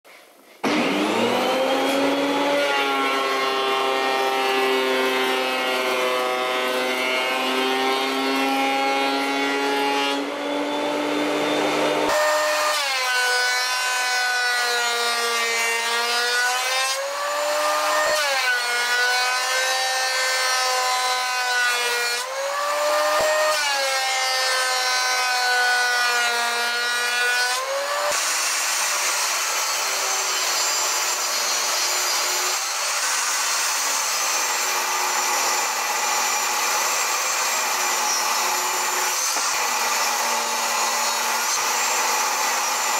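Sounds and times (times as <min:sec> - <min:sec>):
thickness planer whining: 0:00.1 - 0:42.9.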